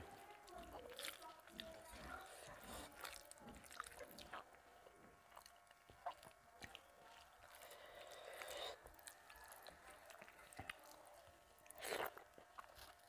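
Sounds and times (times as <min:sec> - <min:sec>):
fingers squishing rice: 0:00.0 - 0:13.0
quiet chewing: 0:00.0 - 0:13.0.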